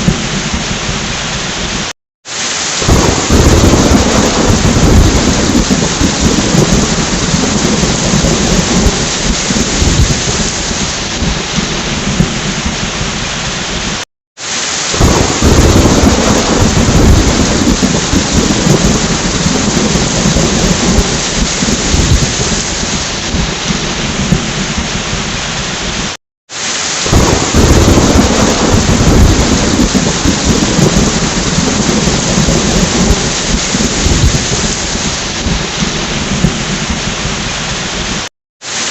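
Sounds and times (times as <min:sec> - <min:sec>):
low rolling thunder: 0:00.0 - 0:01.8, 0:02.8 - 0:13.9, 0:14.9 - 0:26.0, 0:27.1 - 0:38.1
heavy rain: 0:00.0 - 0:38.9.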